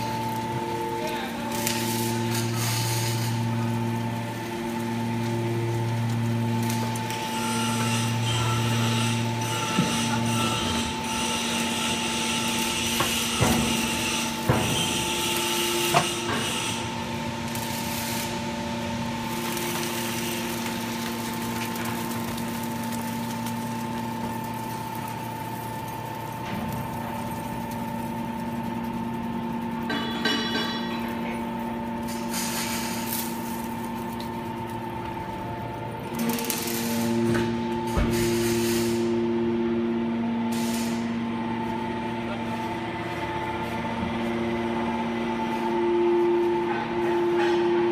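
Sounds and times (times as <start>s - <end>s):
hydraulic unit humming: 0.0s - 47.9s.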